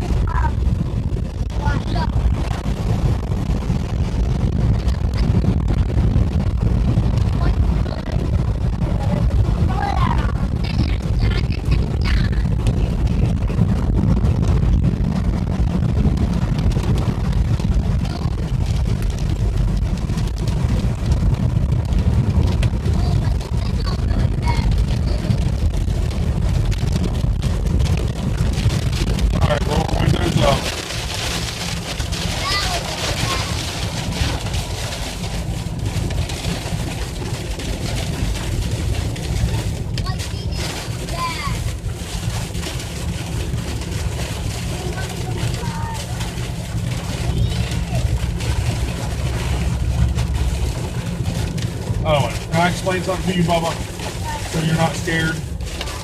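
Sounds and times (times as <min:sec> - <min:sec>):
rain on a car: 0:00.0 - 0:56.0
road rumble: 0:00.0 - 0:56.0
wind buffeting through windows: 0:00.0 - 0:56.0.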